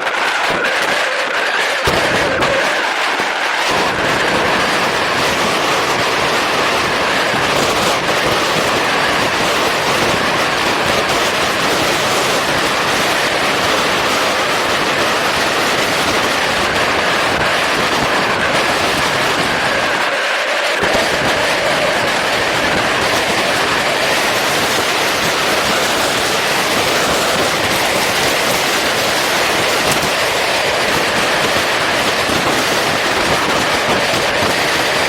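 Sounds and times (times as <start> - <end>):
wind and motorcycle engine rush: 0.0 - 35.0.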